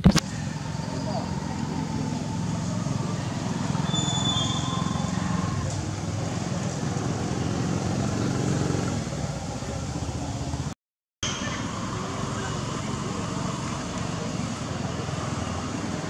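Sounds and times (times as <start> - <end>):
motorbikes: 0.0 - 16.0
road traffic rumble: 0.0 - 16.0.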